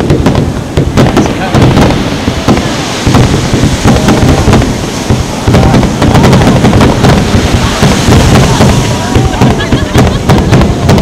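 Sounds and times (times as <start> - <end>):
fireworks booming: 0.0 - 11.0
fireworks cracking: 0.0 - 11.0.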